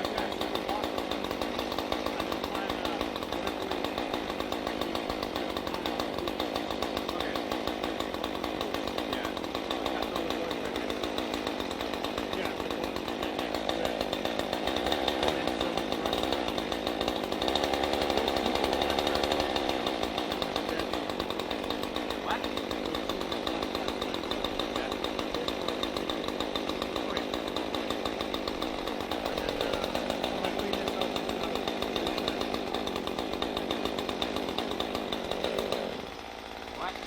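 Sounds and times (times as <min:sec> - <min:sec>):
two-stroke chainsaw running: 0:00.0 - 0:37.0.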